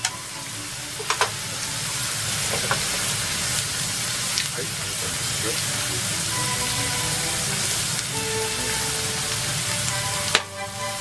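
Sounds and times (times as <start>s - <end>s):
soft background music: 0.0s - 3.2s, 5.3s - 11.0s
seaweed sizzling in oil: 0.0s - 11.0s.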